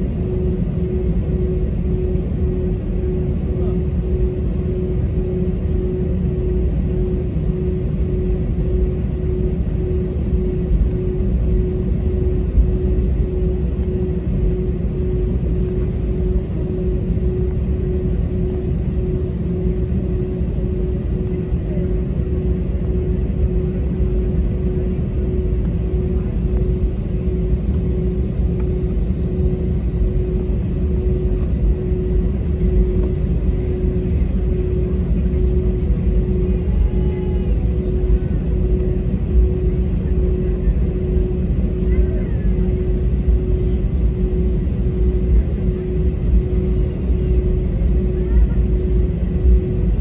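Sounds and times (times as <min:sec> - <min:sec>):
jet engines idling rumble: 0:00.0 - 0:50.0
mid-pitched cabin hum: 0:00.0 - 0:50.0.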